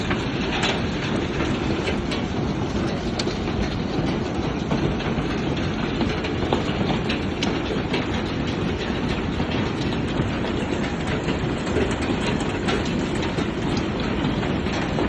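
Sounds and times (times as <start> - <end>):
hailstones striking hard surfaces: 0.0 - 15.0
heavy rain and hail roar: 0.0 - 15.0.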